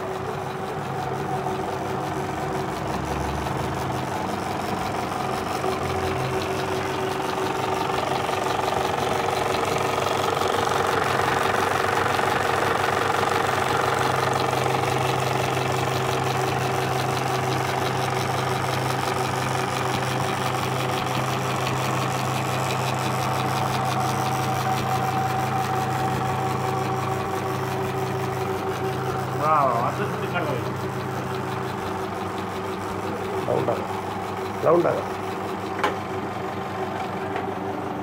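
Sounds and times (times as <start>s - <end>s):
projector motor hum: 0.0s - 38.0s.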